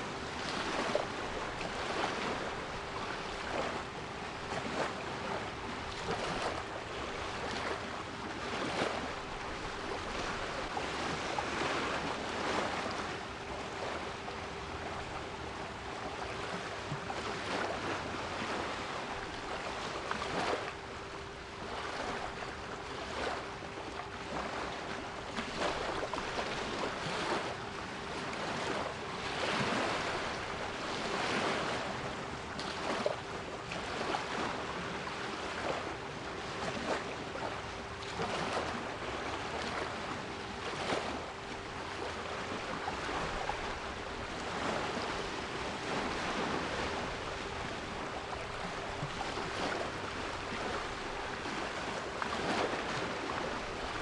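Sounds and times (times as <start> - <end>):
sea waves surging: 0.0 - 54.0.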